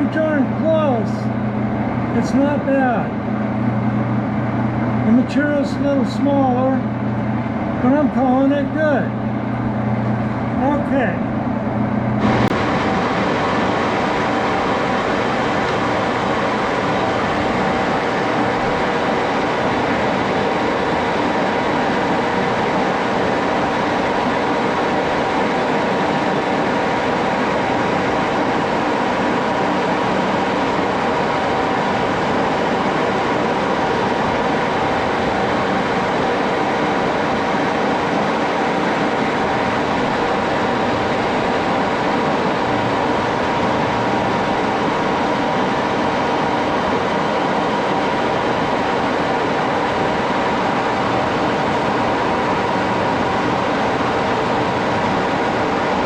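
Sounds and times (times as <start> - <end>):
metal lathe running: 0.0 - 56.0.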